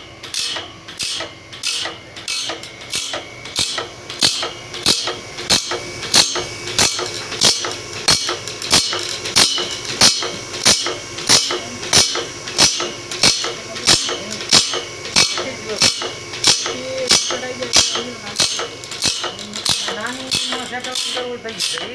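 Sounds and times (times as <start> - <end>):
faint motor hum: 0.0 - 21.9
grinding strokes on saw blade: 0.0 - 21.9.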